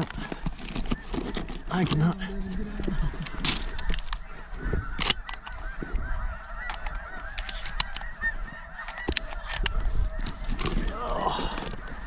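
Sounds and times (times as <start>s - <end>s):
geese honking: 0.0s - 12.0s
low wind rumble: 0.0s - 12.0s.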